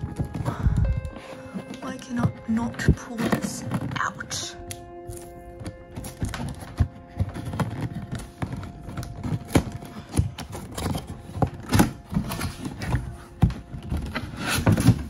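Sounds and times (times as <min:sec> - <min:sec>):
box and plastic packaging handled: 0:00.0 - 0:15.0.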